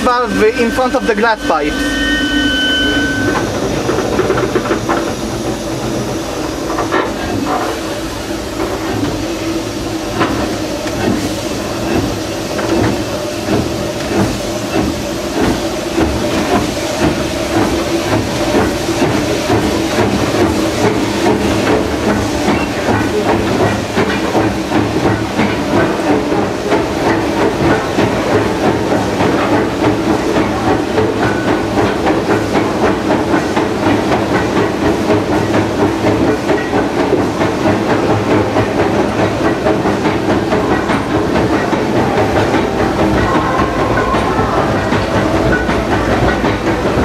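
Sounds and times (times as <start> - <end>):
locomotive engine and wheels running: 0.0 - 47.0
steam hissing: 0.0 - 47.0.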